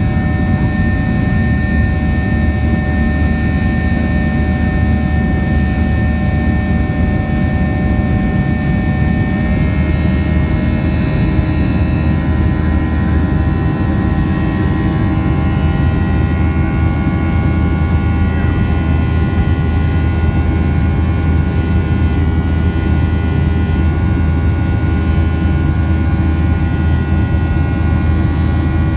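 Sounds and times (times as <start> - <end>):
jet engine rumble in cabin: 0.0 - 28.9.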